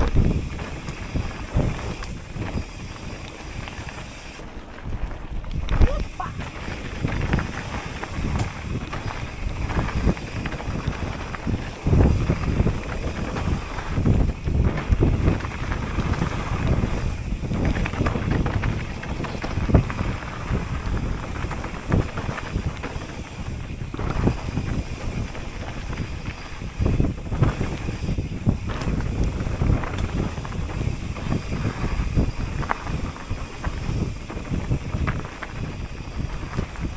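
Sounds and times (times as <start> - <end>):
bike thumping over rough ground: 0.0 - 36.9
wind buffeting microphone: 0.0 - 36.9.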